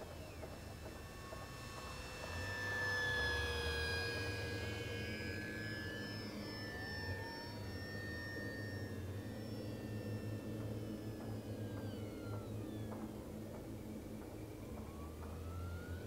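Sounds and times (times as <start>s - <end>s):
model airplane motor whining: 0.0s - 16.0s.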